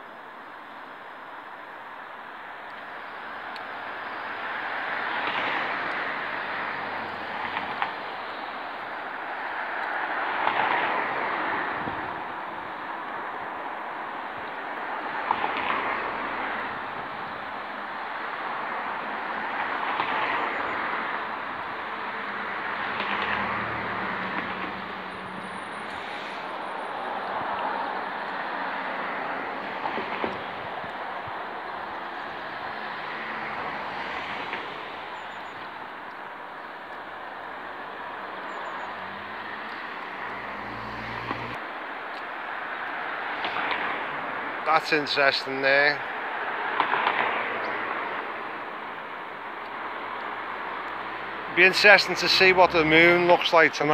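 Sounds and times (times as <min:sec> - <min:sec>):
passing vehicles rushing: 0:00.0 - 0:53.9
road traffic noise: 0:00.0 - 0:53.9.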